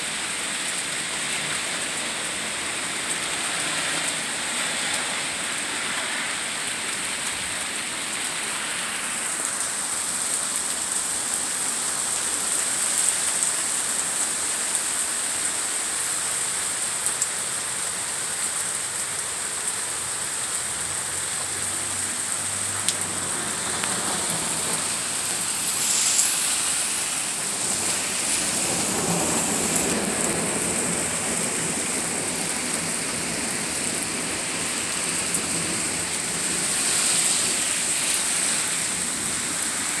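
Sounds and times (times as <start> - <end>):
steady rain hissing: 0.0 - 40.0.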